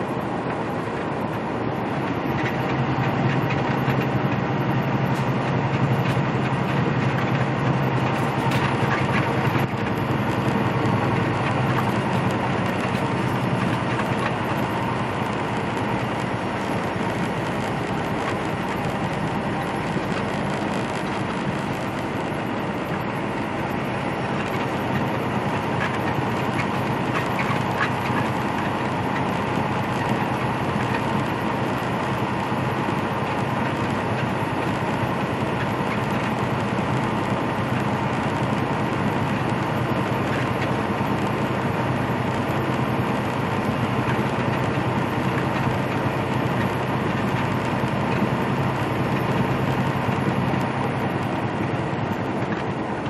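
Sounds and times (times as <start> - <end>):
diesel engine drone: 0.0 - 53.0.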